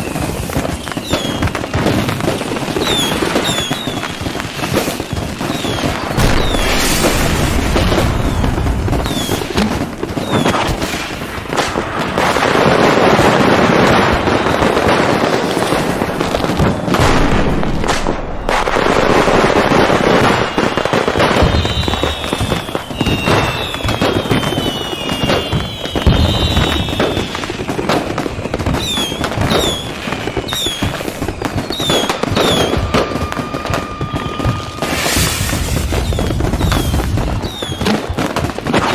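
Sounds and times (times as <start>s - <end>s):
firework bangs and crackling: 0.0s - 38.9s
firework whistles: 0.0s - 38.9s.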